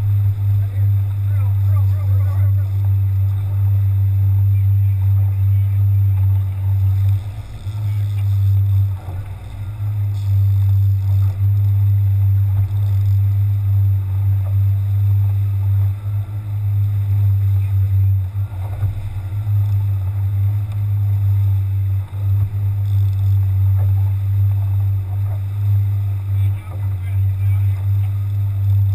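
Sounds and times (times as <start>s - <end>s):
outboard motor droning: 0.0s - 28.9s.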